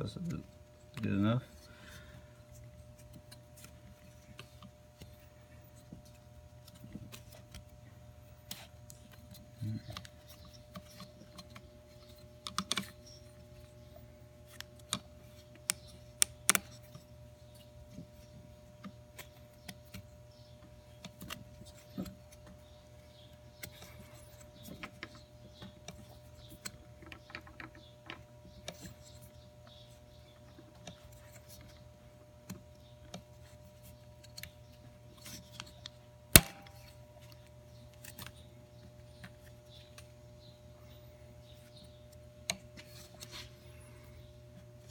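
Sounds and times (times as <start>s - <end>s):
steady low hum: 0.0s - 27.1s, 27.9s - 44.9s.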